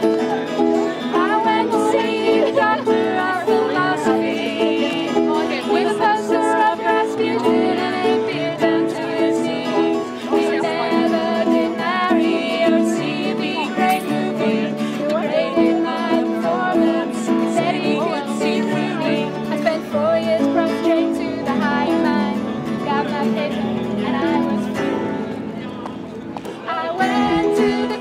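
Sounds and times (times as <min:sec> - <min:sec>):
instrumental string music: 0:00.0 - 0:28.0.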